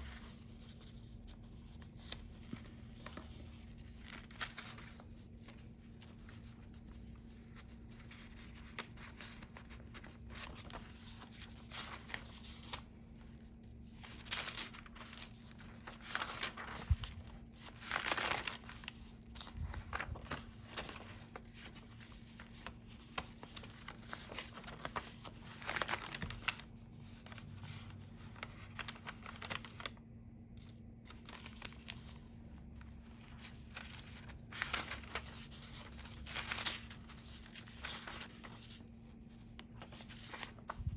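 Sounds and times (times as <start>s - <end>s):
paper rustling and crinkling: 0.0s - 40.9s.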